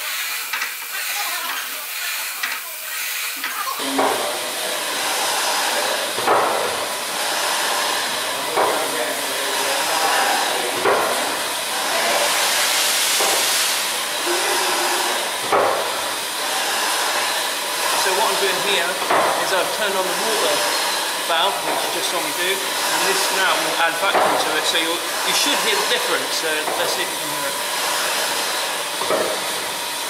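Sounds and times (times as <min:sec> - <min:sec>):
steady hiss of steam: 0:00.0 - 0:30.0
steam engine running slowly: 0:00.0 - 0:30.0.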